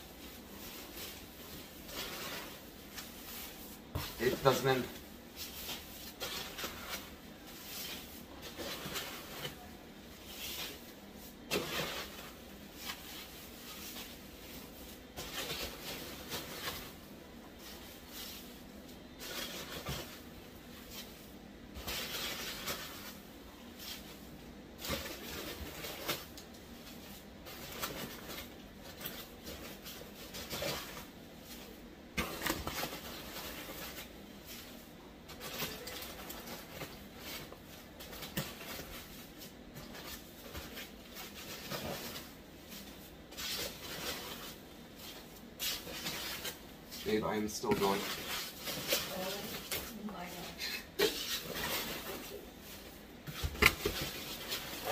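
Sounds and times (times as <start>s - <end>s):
packing peanuts rustling: 0.0s - 54.9s.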